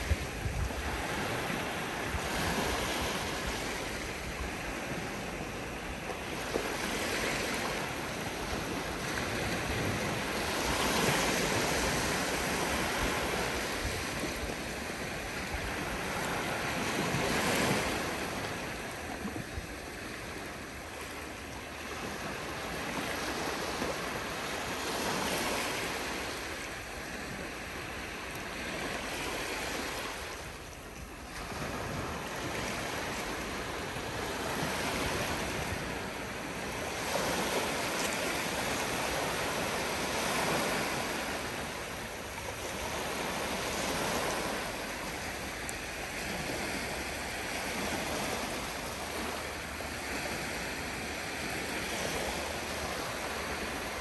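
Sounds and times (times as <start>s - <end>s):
small waves breaking on shore: 0.0s - 54.0s.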